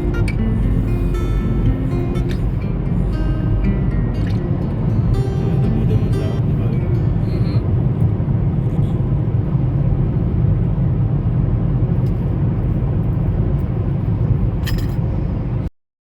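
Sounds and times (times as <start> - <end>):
truck engine and road rumble: 0.0 - 15.7.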